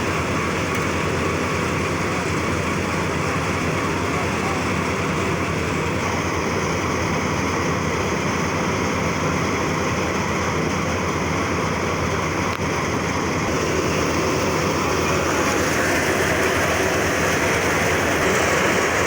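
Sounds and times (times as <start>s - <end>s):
low engine rumble: 0.0s - 19.0s
thresher running: 0.0s - 19.0s.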